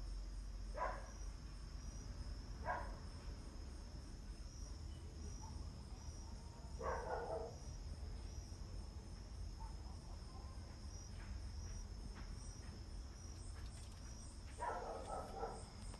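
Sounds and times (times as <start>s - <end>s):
insects chirring: 0.0s - 15.9s.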